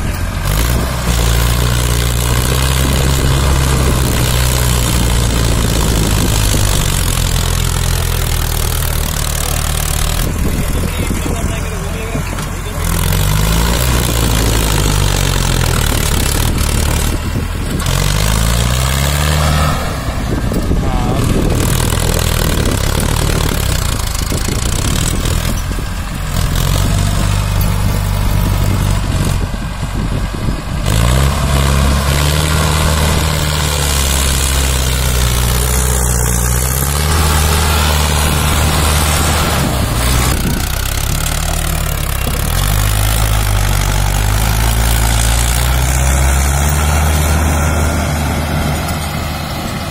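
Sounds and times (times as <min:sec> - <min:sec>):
tractor diesel engine working hard: 0:00.0 - 0:49.9.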